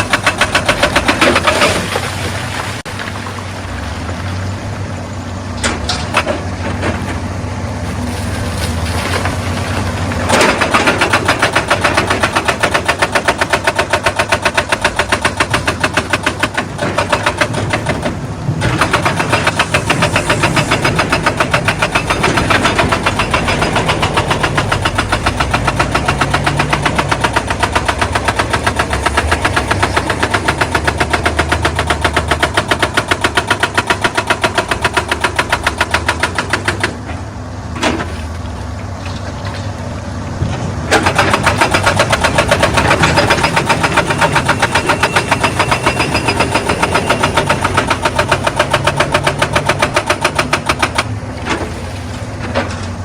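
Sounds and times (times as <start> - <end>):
hydraulic breaker hammering stone: 0.0 - 3.1, 7.9 - 38.2, 40.9 - 53.0
excavator engine running: 0.0 - 53.0.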